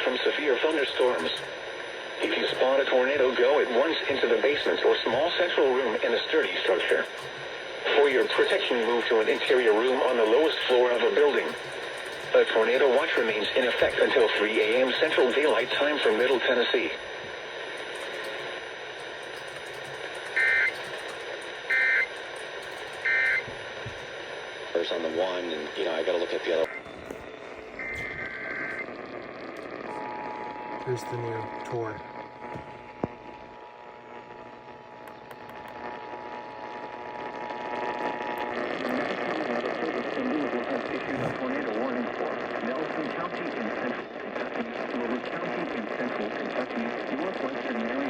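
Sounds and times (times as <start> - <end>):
radio hiss with crackles: 0.0 - 48.0.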